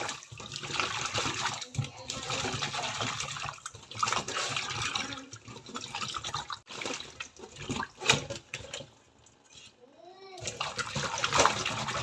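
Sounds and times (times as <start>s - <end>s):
water splashing in metal bowl: 0.0s - 9.4s, 10.4s - 12.0s.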